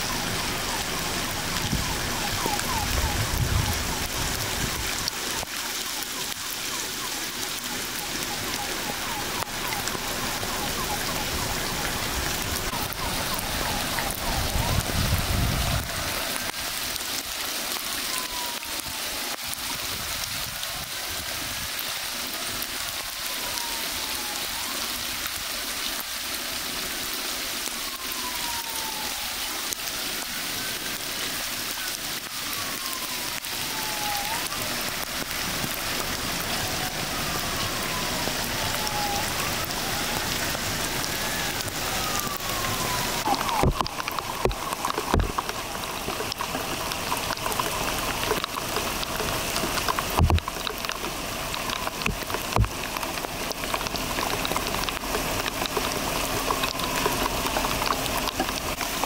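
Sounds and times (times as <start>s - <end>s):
heavy rain on standing water: 0.0s - 59.0s.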